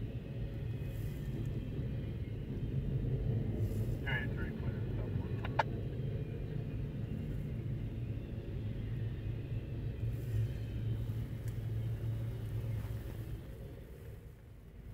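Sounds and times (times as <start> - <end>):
freight train wheels rumbling: 0.0 - 14.9.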